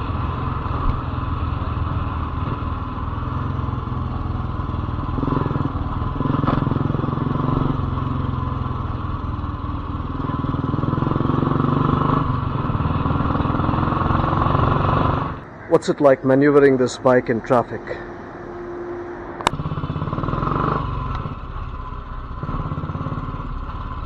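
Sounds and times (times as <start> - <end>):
motorcycle engine running: 0.0 - 15.6, 19.1 - 24.0.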